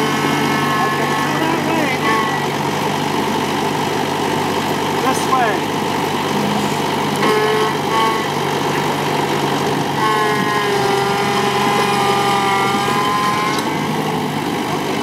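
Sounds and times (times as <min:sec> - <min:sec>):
drawn-out high tone: 0:00.0 - 0:15.0
tractor diesel engine running: 0:00.0 - 0:15.0.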